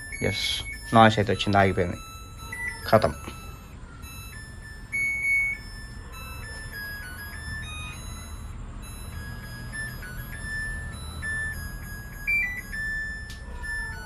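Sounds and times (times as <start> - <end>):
washing machine beeping melody: 0.0 - 14.0.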